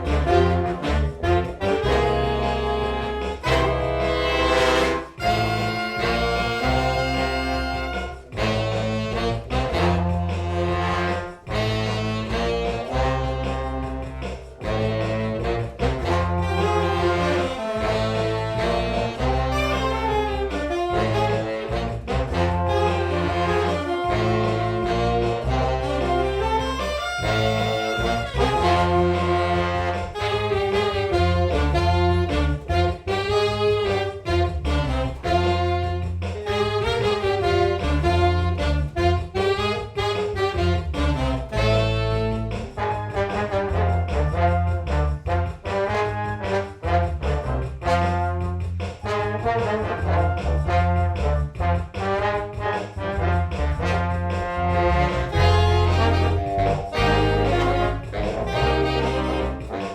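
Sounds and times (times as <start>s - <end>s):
big band jazz: 0.0s - 59.9s
repeating bass line: 0.0s - 59.9s
saxophones and brass: 0.0s - 59.9s.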